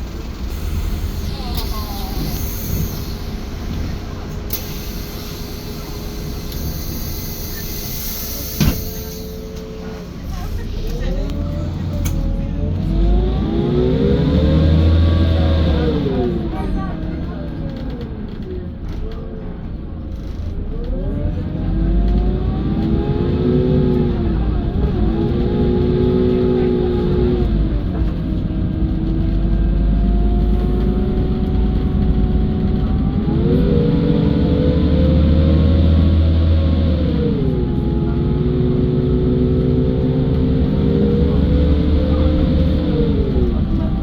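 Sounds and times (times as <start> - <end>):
bus cabin rumble: 0.0 - 44.0.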